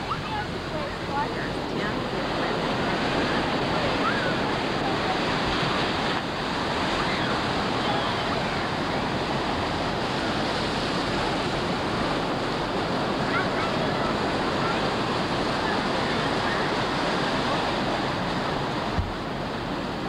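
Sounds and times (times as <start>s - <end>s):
ocean surf breaking: 0.0s - 20.0s.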